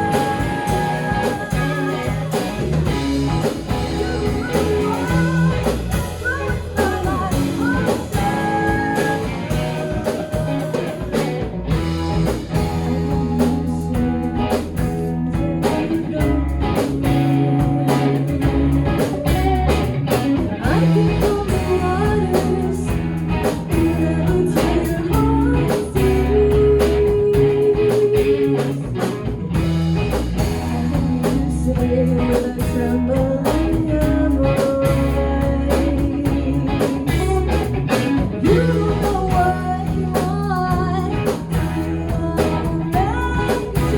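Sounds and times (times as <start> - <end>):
person singing: 0.0 - 19.9, 20.5 - 29.1, 30.4 - 43.9
drum kit: 0.0 - 43.9
guitar: 0.0 - 43.9
live band playing: 0.0 - 43.9.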